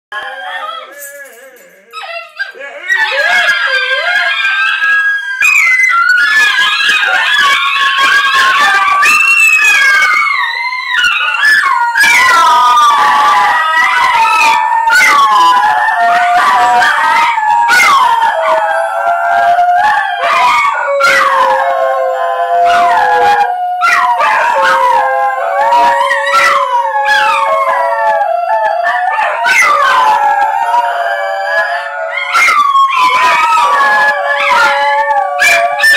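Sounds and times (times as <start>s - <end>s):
dogs howling: 0.2s - 35.9s.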